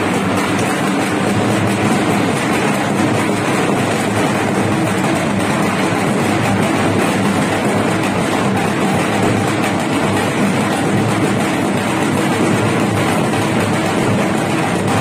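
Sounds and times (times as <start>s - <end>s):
crowd noise: 0.0s - 15.0s
drums beaten: 0.0s - 15.0s.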